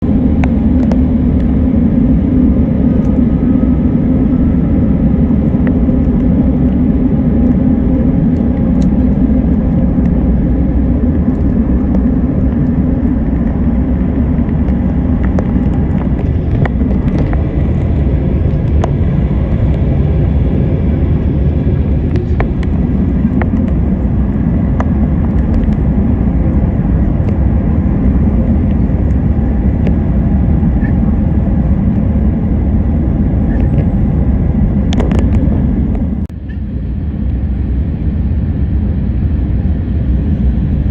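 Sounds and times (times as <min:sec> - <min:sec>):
airliner cabin roar: 0:00.0 - 0:40.9.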